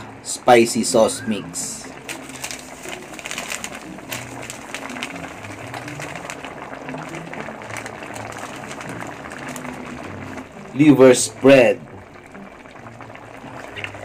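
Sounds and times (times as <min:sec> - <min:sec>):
broth bubbling in a pan: 0:00.0 - 0:14.0.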